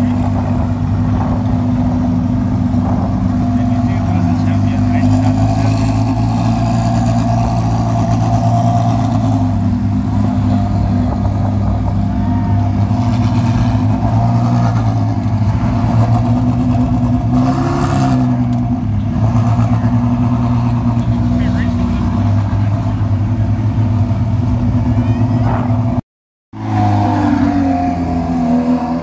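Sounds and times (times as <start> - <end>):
race car engine idling: 0.0 - 17.4, 18.3 - 26.0.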